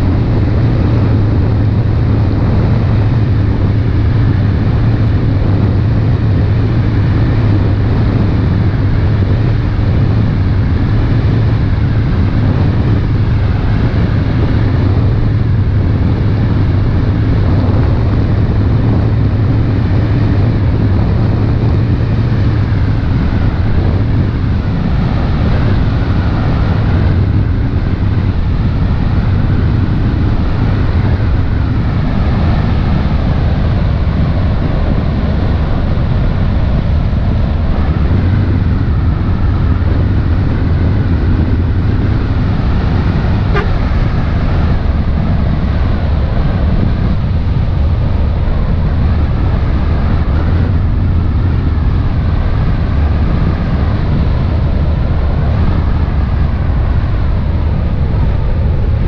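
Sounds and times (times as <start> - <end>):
boat engines droning: 0.0 - 59.0
even rushing noise: 0.0 - 59.0.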